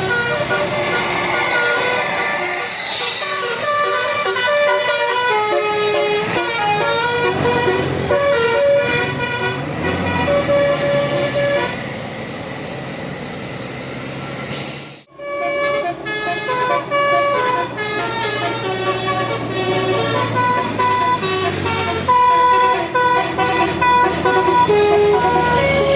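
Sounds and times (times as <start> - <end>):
air horns playing a tune: 0.0 - 11.8, 15.1 - 25.9
bus engine and road noise: 0.0 - 25.9.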